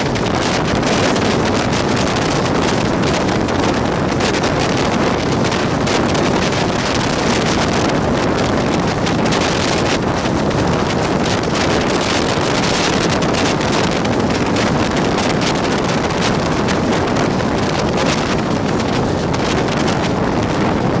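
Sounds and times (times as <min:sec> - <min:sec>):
train rumbling at speed: 0:00.0 - 0:21.0
wind buffeting the microphone: 0:00.0 - 0:21.0.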